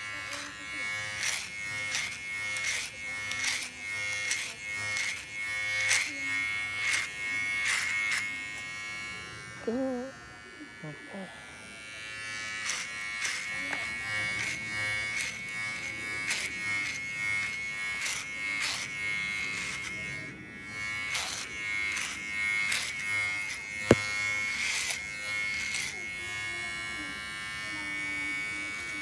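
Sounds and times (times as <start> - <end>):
clipper blades rasping through hair: 0.0 - 9.5, 11.5 - 20.0, 20.7 - 26.2
hair clippers buzzing: 0.0 - 29.0.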